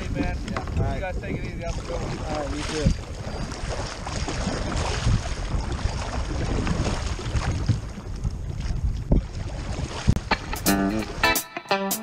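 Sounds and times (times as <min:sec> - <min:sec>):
kayak paddle splashing: 0:00.0 - 0:11.3
wind on microphone: 0:00.0 - 0:11.3.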